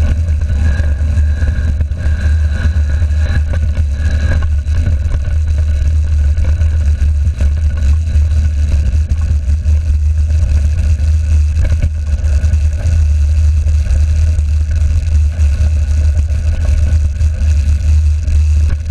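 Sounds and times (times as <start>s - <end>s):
wind and vibration rumble: 0.0s - 18.9s.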